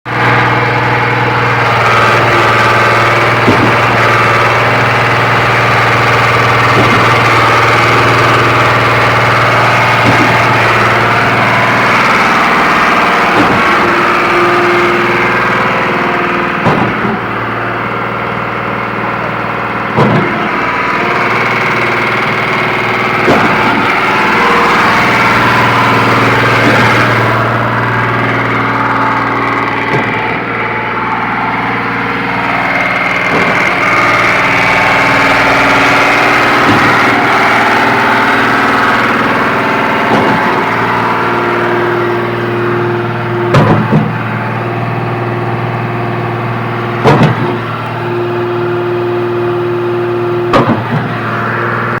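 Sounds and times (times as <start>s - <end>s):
diesel engine hum: 0.0s - 52.0s
pump knocking: 0.2s - 52.0s.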